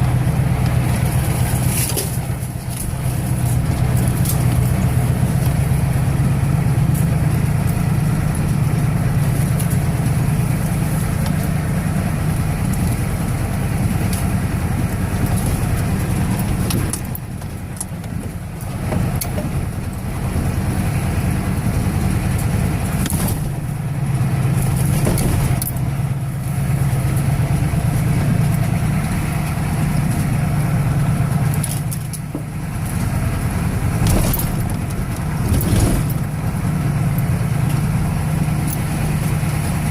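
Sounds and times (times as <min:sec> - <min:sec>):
diesel truck engine hum: 0:00.0 - 0:39.9.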